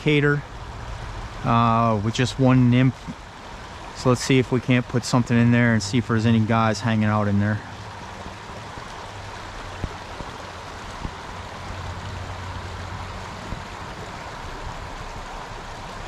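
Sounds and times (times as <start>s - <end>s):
stream running over riffles: 0.0s - 16.0s.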